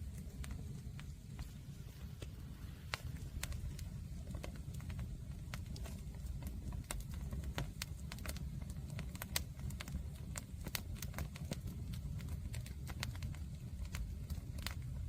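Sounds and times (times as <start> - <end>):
bonfire crackling and popping: 0.0 - 15.0
low rumble of fire: 0.0 - 15.0.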